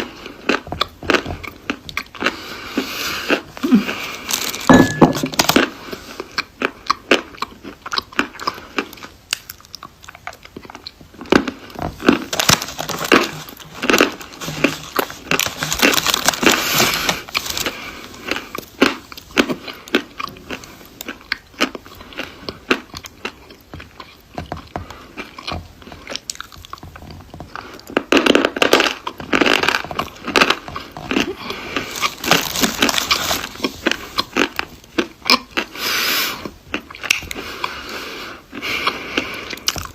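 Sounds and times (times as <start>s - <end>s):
chewing dry chalk crunches: 5.3s - 35.8s, 36.4s - 39.9s.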